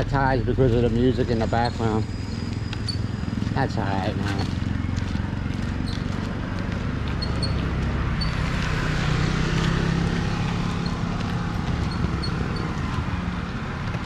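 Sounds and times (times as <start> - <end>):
street traffic noise: 0.0 - 14.0
small motorcycle engine: 0.7 - 14.0.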